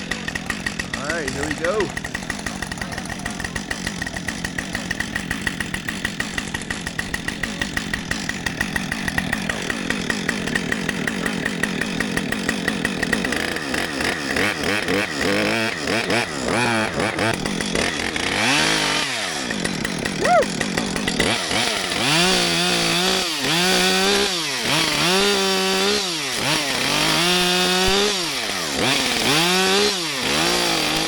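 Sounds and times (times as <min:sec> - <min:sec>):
chainsaw running and revving: 0:00.0 - 0:31.0.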